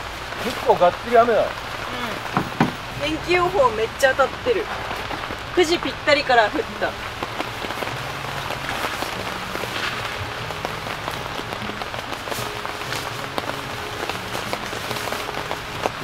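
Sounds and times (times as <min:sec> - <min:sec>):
heavy rain on a tent: 0:00.0 - 0:16.0
quiet background music: 0:02.5 - 0:16.0.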